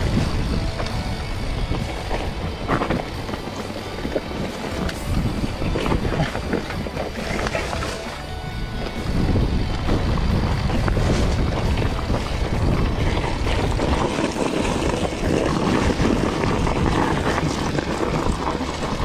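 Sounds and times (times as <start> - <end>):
bike tyres on rocky trail: 0.0 - 19.0
wind buffeting microphone: 0.0 - 19.0.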